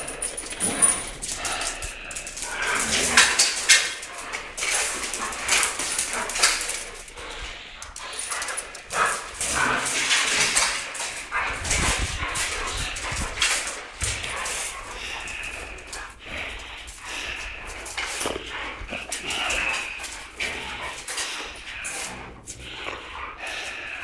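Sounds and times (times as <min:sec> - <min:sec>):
scuffling and clattering: 0:00.0 - 0:22.9.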